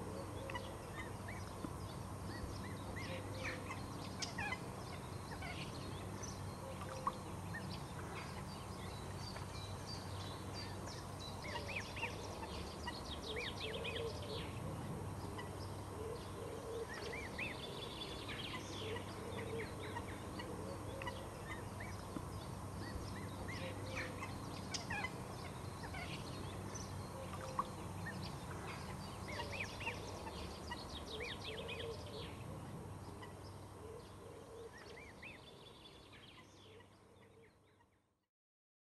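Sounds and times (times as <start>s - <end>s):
steady low hum: 0.0s - 37.8s.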